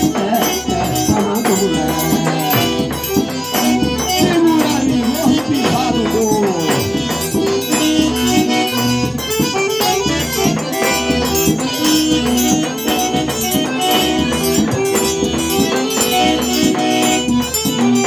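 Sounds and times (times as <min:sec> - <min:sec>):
button accordion melody: 0:00.0 - 0:18.0
rattling shaker percussion: 0:00.0 - 0:18.0.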